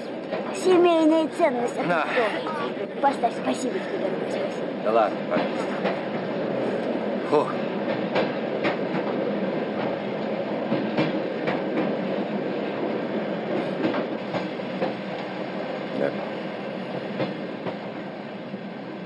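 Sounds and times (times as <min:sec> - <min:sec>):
train carriage running rumble: 0:00.0 - 0:19.0.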